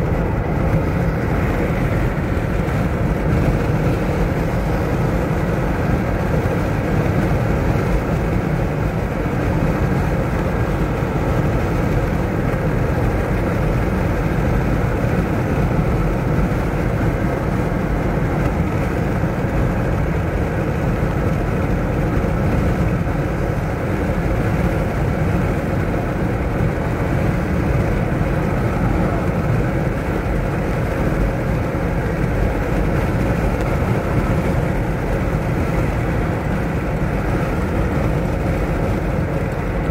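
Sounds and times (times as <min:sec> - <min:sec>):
road and engine noise in car: 0:00.0 - 0:39.9.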